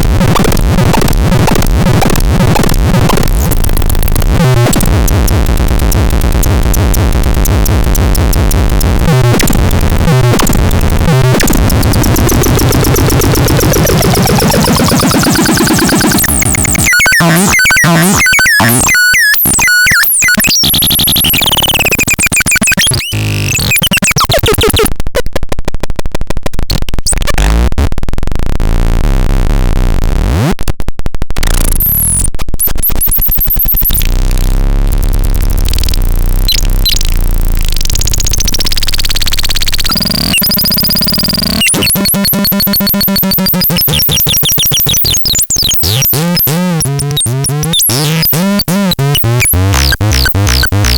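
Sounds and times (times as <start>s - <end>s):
harsh noisy synthesizer: 0.0s - 24.9s, 31.4s - 50.9s.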